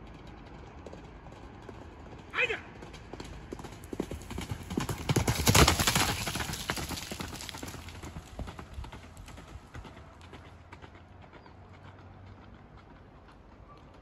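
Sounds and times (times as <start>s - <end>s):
horse hoofbeats galloping on dirt: 0.0s - 14.0s.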